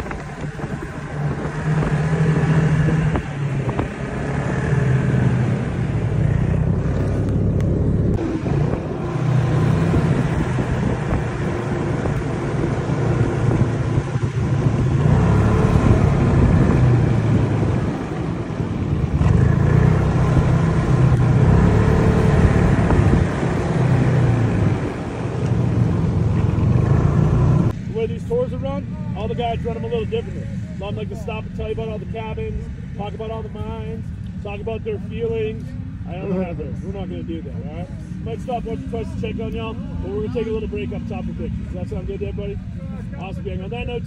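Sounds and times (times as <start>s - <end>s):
snowmobile engine droning: 0.0s - 44.0s.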